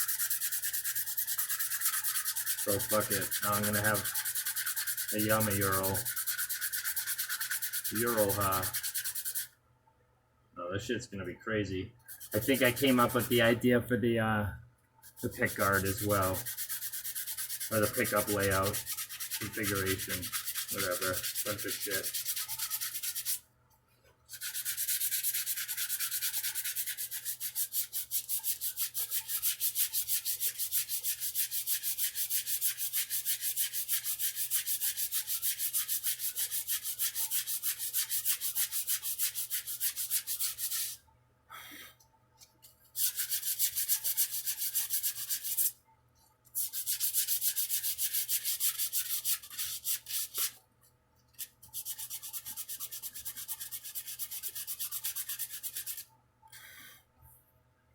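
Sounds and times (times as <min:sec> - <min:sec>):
sandpaper scratching on wood: 0:00.0 - 0:09.5, 0:12.1 - 0:13.6, 0:15.0 - 0:23.4, 0:24.3 - 0:41.0, 0:43.0 - 0:45.8, 0:46.6 - 0:50.6, 0:51.4 - 0:56.1.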